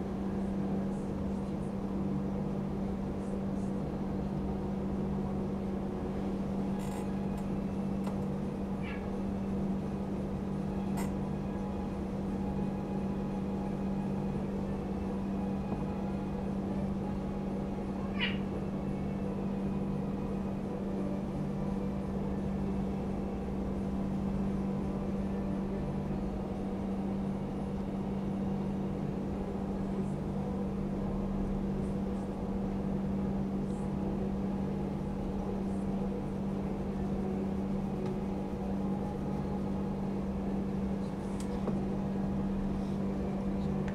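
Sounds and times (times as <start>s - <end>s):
appliance humming: 0.0s - 43.9s.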